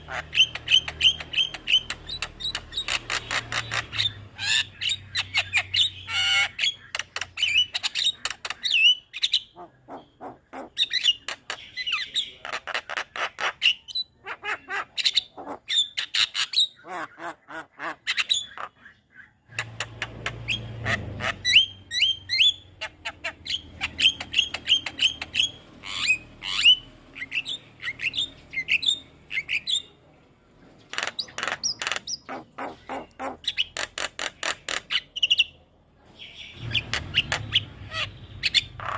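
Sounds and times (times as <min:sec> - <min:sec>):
birds clicking and chattering: 0:00.0 - 0:38.9.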